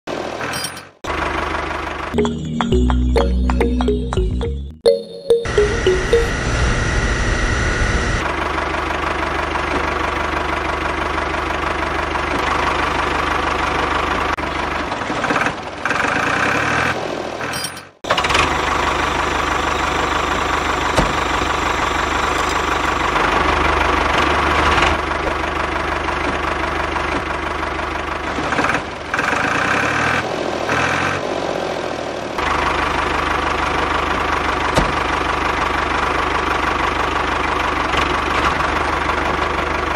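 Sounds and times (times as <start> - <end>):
engine running with rhythmic knock: 0.4 - 4.4, 5.5 - 16.8, 17.4 - 31.1, 32.4 - 39.9.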